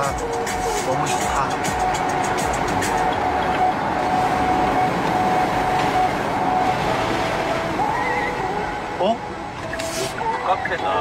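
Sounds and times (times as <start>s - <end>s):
car road noise: 0.0s - 11.0s.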